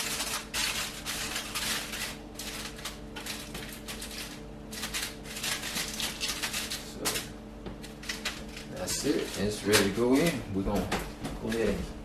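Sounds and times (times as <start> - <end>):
aluminium foil crinkling: 0.0 - 10.8.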